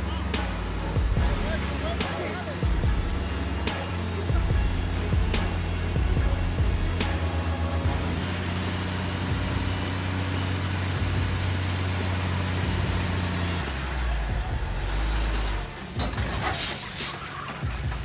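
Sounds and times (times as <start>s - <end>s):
heavy truck engine droning: 0.0s - 18.0s.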